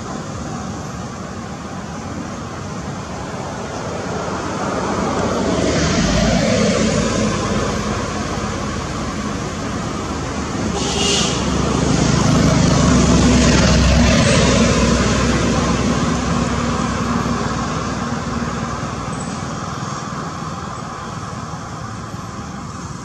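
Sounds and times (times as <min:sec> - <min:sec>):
vehicle passing by: 0:03.2 - 0:22.7.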